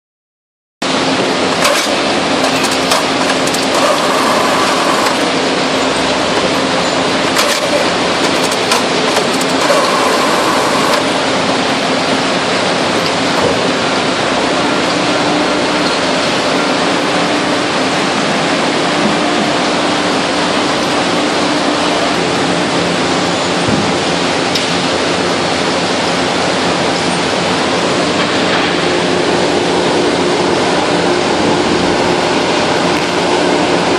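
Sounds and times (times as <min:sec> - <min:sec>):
baler machine running: 0:00.8 - 0:33.9
low hydraulic hum: 0:00.8 - 0:33.9.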